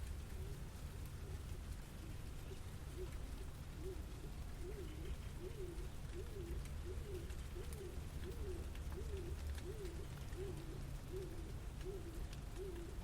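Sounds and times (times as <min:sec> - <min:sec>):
low city rumble: 0:00.0 - 0:13.0
pigeon cooing: 0:01.2 - 0:13.0.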